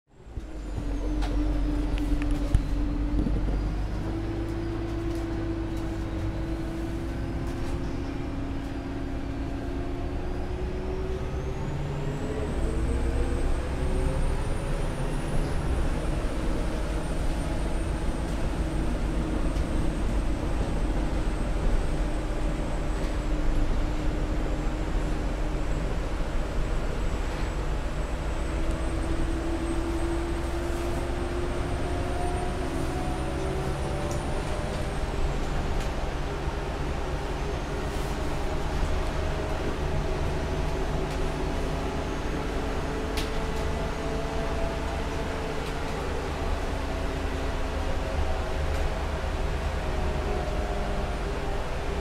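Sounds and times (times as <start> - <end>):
bus engine humming: 0.1 - 52.0.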